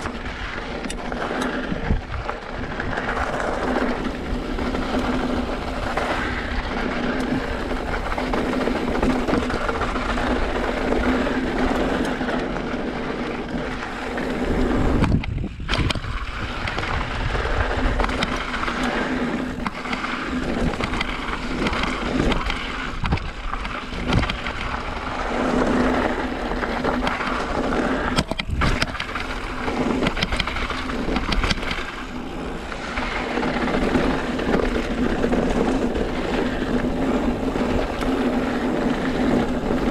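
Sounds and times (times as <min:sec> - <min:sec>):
bike clattering over bumps: 0:00.0 - 0:39.9.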